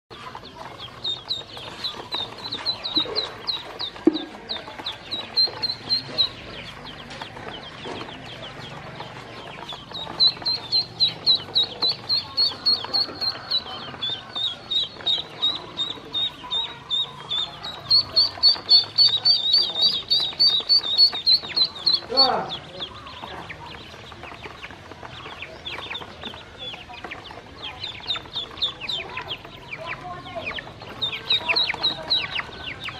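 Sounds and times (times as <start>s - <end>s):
ducklings peeping: 0.1s - 32.9s.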